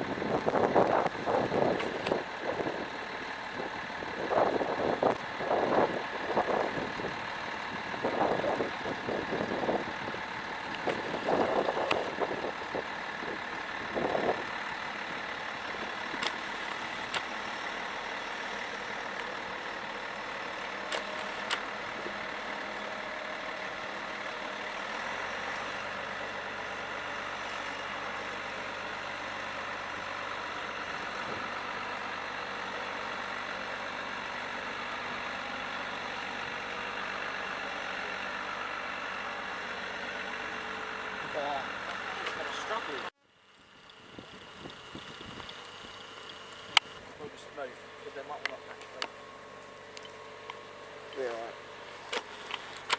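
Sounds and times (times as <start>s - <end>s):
diesel engines idling: 0.0s - 52.9s.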